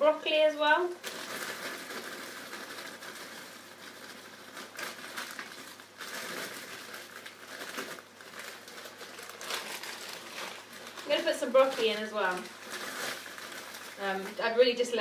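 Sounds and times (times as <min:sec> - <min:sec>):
plastic bag crinkling: 0:00.2 - 0:15.0
short crackles of plastic: 0:00.9 - 0:14.4.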